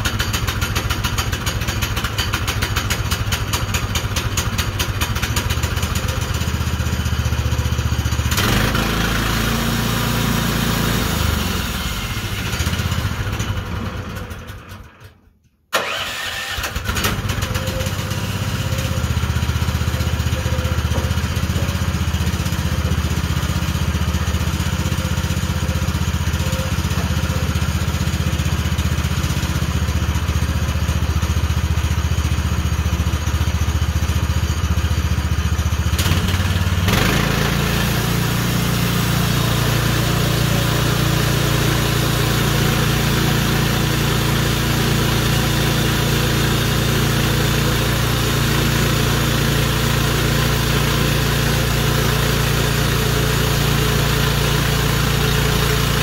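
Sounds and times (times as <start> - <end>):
sawmill petrol engine running: 0.0 - 56.0.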